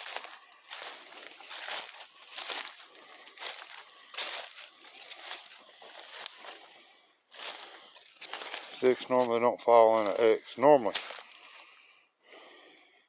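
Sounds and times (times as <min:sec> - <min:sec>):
footsteps crunching dry leaves: 0:00.0 - 0:11.7.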